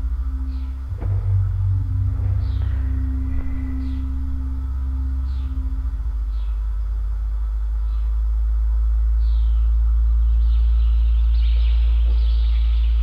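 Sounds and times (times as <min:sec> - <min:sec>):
low drone: 0:00.0 - 0:13.0
sustained humming tone: 0:00.0 - 0:13.0.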